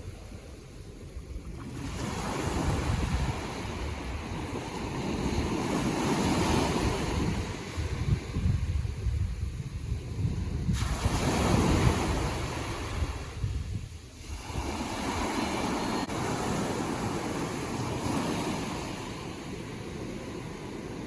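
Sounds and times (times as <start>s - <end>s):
ocean waves washing on shore: 0.0s - 21.0s
wind rumble on microphone: 0.0s - 21.0s.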